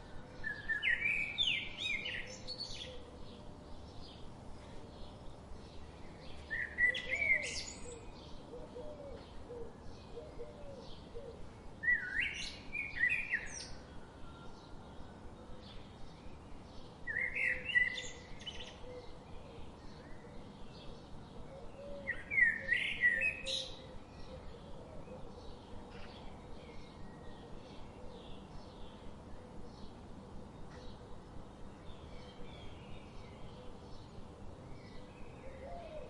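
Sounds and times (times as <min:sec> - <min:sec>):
songbird singing loud phrase: 0:00.0 - 0:04.3, 0:04.9 - 0:36.0
faint chirping of birds: 0:00.0 - 0:36.0.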